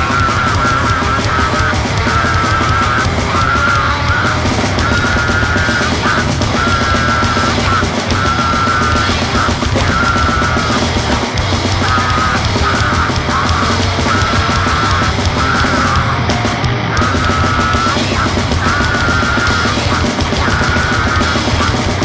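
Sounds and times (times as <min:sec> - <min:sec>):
loud grindcore noise music: 0:00.0 - 0:22.0.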